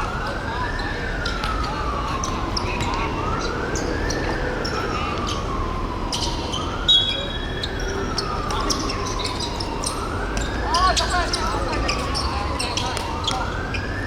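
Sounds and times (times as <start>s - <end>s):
wailing siren: 0.0s - 14.0s.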